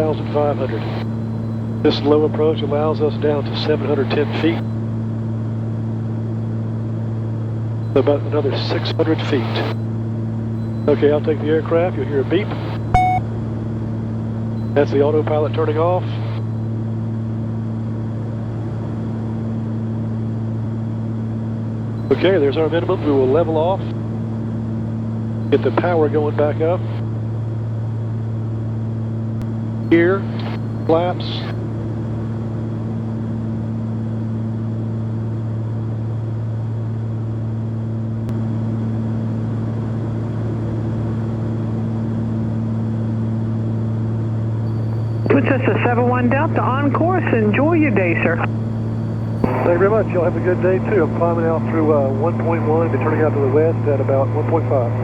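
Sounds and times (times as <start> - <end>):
propeller plane cabin drone: 0.0 - 55.0.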